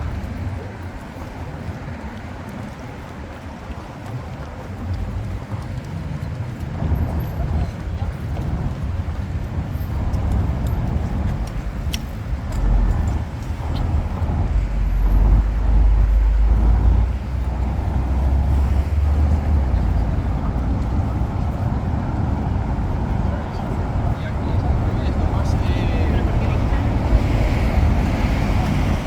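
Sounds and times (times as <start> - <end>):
rumble of street traffic: 0.0 - 29.0.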